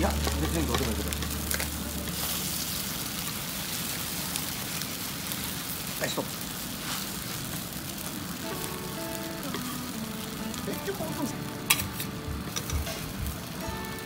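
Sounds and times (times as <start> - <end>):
batter sizzling on a griddle: 0.0 - 14.0.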